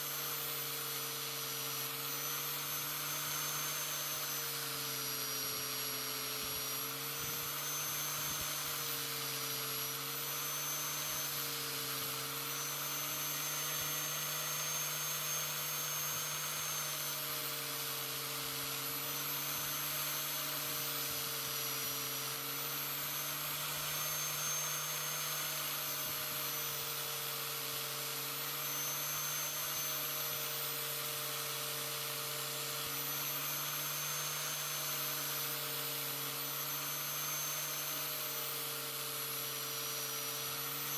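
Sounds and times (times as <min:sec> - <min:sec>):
angle grinder grinding metal: 0:00.0 - 0:40.9.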